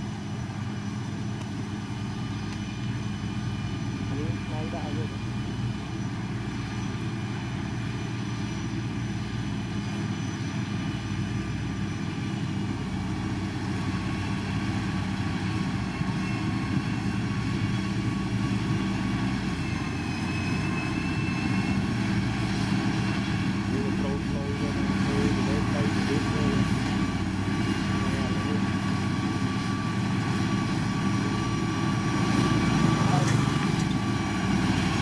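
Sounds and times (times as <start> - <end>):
diesel engine droning: 0.0 - 35.0
faint machine whines: 0.0 - 35.0.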